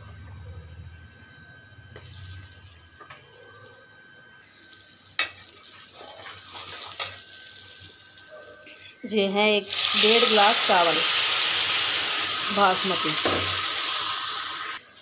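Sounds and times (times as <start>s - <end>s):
hot oil sizzling: 2.0s - 3.2s, 4.2s - 14.9s.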